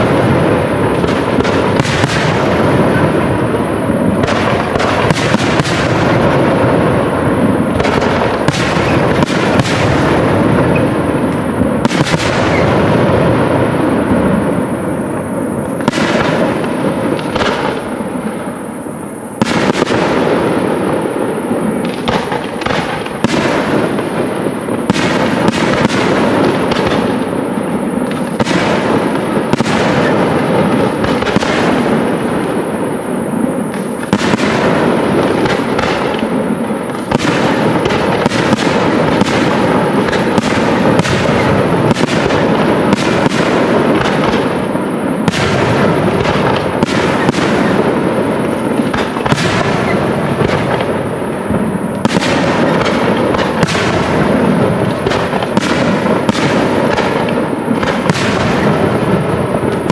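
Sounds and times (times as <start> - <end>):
fireworks bangs: 0.0 - 59.9
fireworks crackle: 0.0 - 59.9.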